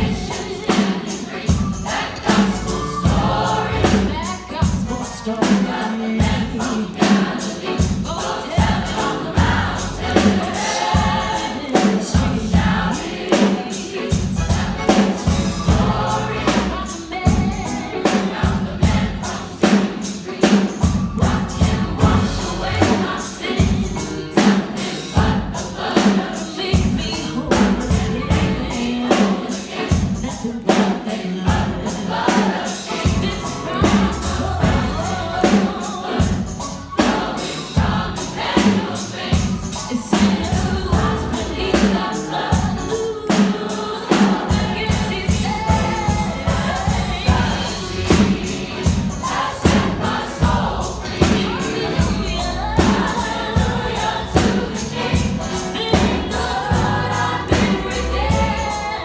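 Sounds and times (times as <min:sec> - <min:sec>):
drums keeping a steady beat: 0:00.0 - 0:59.0
gospel choir singing: 0:00.0 - 0:59.0
keyboard: 0:00.0 - 0:59.0.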